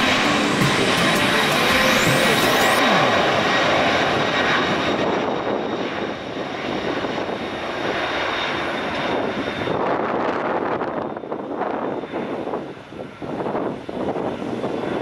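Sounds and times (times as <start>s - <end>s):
jet engines taxiing: 0.0s - 15.0s.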